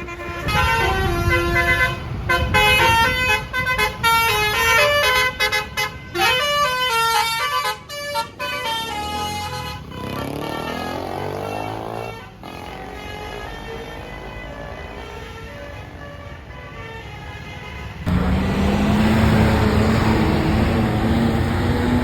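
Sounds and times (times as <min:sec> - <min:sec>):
multi-tone air horn melody: 0:00.0 - 0:18.1.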